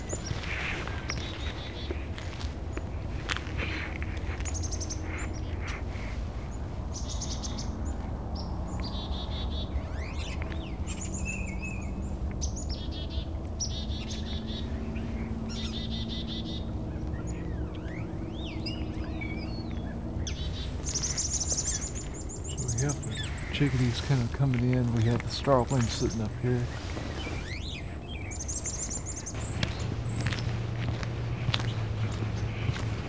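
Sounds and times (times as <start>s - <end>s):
low background rumble: 0.0s - 33.0s
small songbirds calling: 0.0s - 33.0s.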